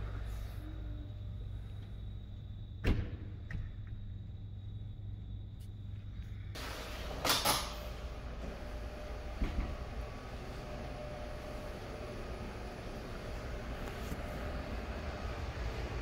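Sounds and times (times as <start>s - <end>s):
ventilation hum: 0.0s - 16.0s.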